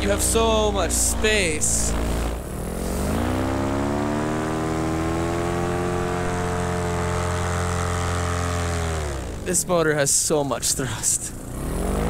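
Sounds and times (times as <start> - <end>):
paramotor engine and propeller: 0.0 - 12.0.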